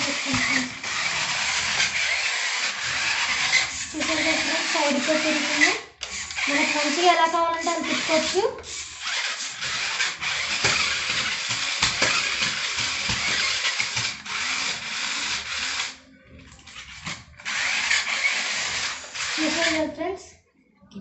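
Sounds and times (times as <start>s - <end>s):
toy car electric motors whirring: 0.0s - 20.0s.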